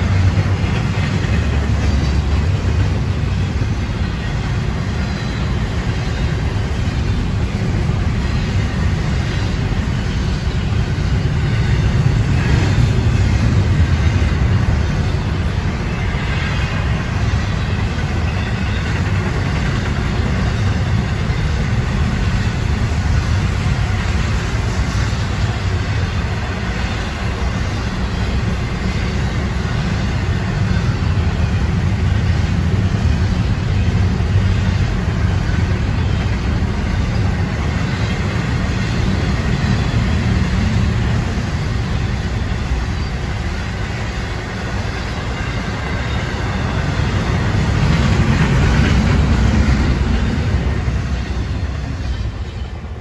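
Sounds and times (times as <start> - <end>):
freight train wheels rumbling on rail: 0.0 - 53.0
rail noise hiss: 0.0 - 53.0.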